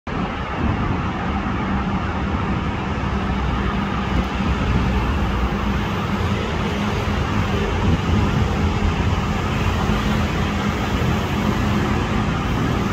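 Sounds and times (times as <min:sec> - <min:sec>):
diesel train rumble: 0:00.1 - 0:12.9
traffic noise: 0:00.1 - 0:12.9.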